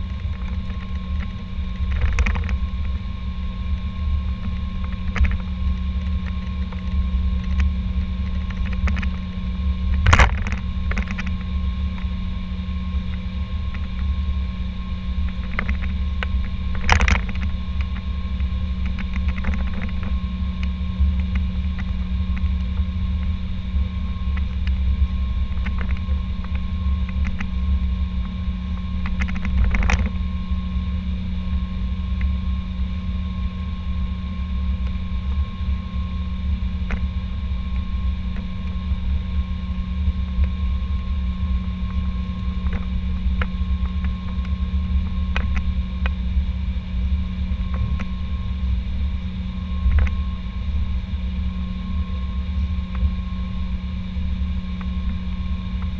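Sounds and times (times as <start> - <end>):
cockpit engine rumble: 0.0 - 55.9.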